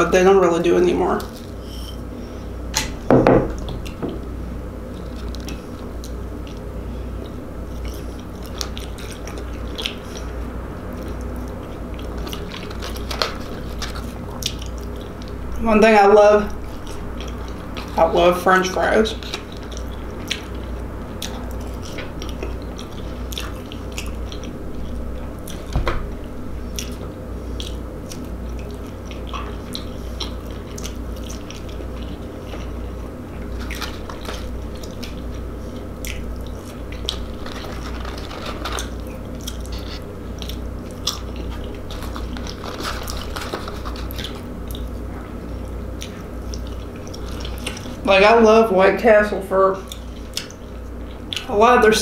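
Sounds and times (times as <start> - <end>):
steady low hum: 0.0 - 52.0
chewing fries: 1.1 - 1.6, 3.6 - 48.5, 49.7 - 52.0.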